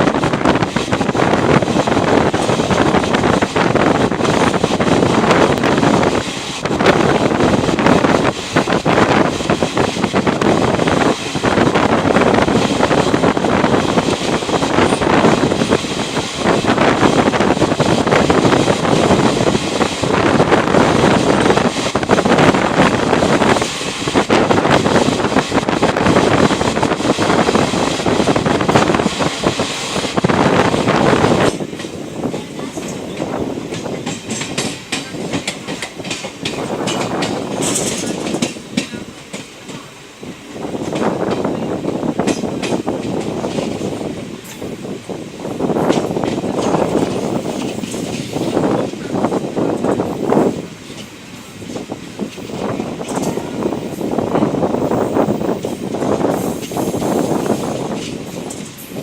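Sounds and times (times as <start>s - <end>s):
train running at speed: 0.0s - 59.0s
wind rushing over microphone: 0.0s - 59.0s.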